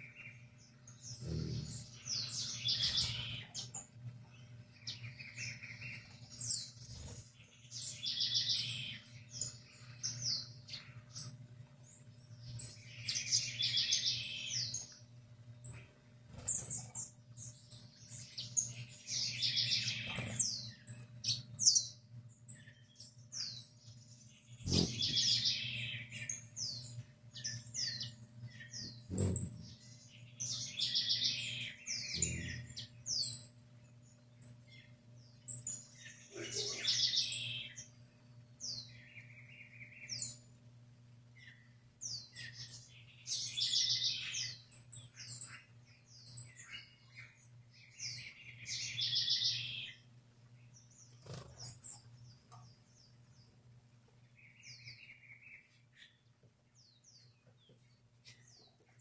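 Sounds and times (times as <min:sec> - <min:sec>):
birds chattering rapidly: 0:00.0 - 0:59.0
birds chirping: 0:00.0 - 0:59.0
faint low hum: 0:00.0 - 0:59.0.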